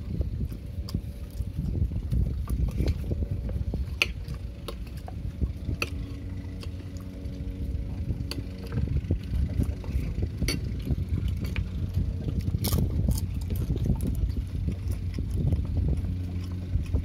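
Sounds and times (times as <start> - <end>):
motor drone: 0.0 - 17.0
wind rumble on microphone: 0.0 - 17.0.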